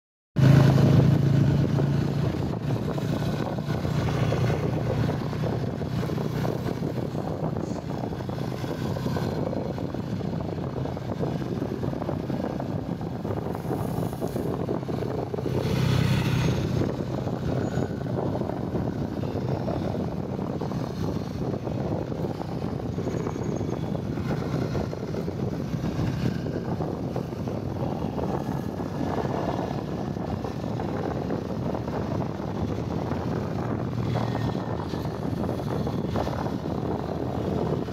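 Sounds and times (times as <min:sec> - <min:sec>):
motorcycle engine running: 0:00.4 - 0:37.9
road and air noise: 0:00.4 - 0:37.9.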